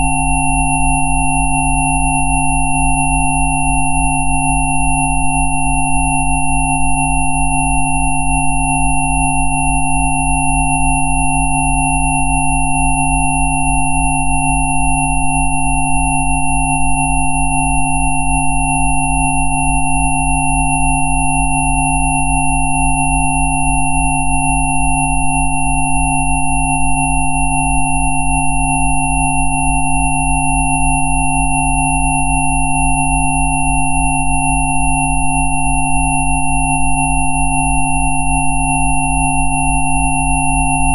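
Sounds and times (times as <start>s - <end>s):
synthesized sine tones: 0.0s - 40.9s.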